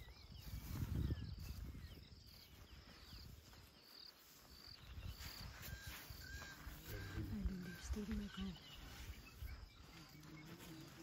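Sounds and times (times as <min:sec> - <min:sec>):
bird calls: 0:00.0 - 0:11.0
insects chirping: 0:00.0 - 0:11.0.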